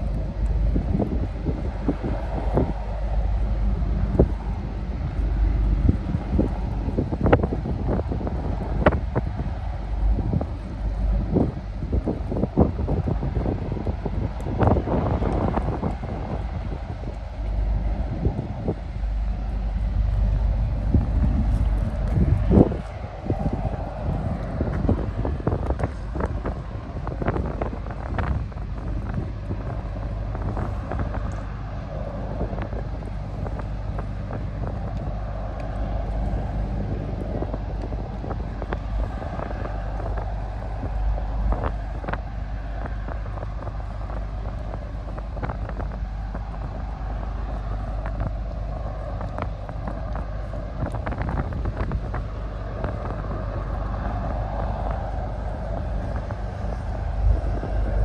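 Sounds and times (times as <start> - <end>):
ferry engines droning: 0.0 - 58.0
wind buffeting microphone: 0.0 - 58.0.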